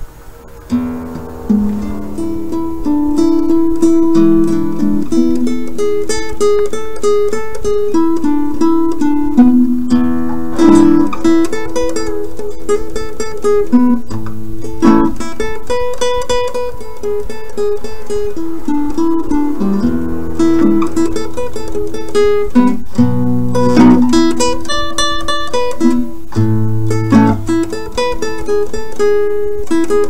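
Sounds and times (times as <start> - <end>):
acoustic guitar picking melody: 0.0 - 30.0
strummed guitar chord: 0.4 - 30.0.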